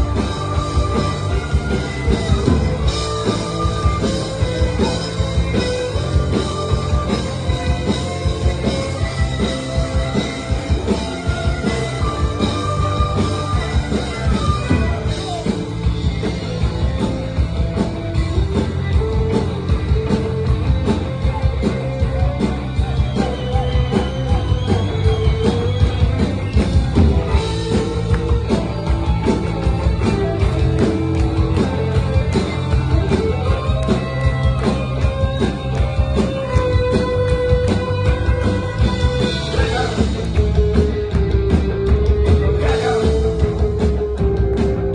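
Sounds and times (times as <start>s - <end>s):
drums beat: 0.0s - 44.9s
rock band playing: 0.0s - 44.9s.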